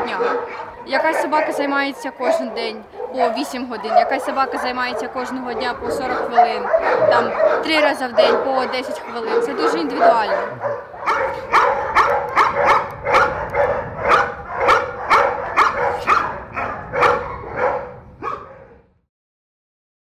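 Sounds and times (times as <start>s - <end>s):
dogs barking: 0.0s - 18.9s.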